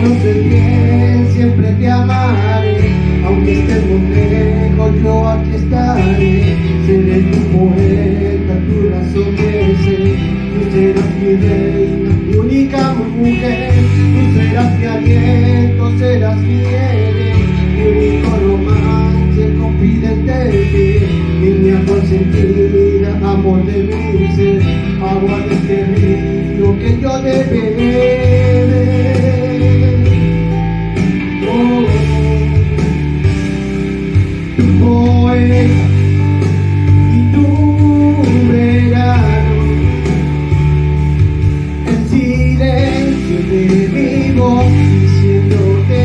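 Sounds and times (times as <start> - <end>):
backing track with guitar: 0.0 - 46.0
man singing into a microphone: 0.0 - 46.0.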